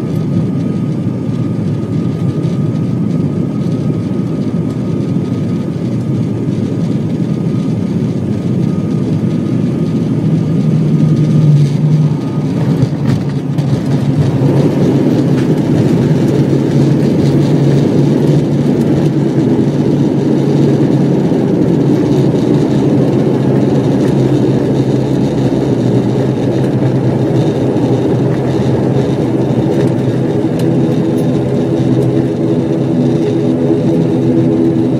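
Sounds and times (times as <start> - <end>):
engine and propeller drone: 0.0 - 34.9
runway rumble: 6.6 - 34.9.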